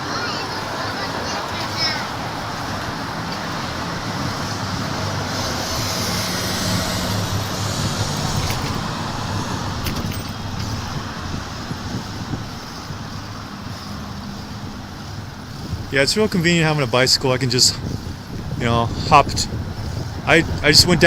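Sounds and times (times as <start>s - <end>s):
road noise: 0.0s - 21.0s
vehicle engine running: 0.0s - 21.0s.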